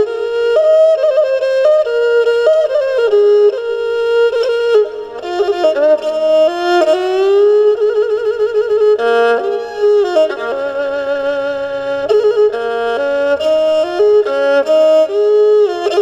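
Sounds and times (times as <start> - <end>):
bowed fiddle melody: 0.0 - 16.0.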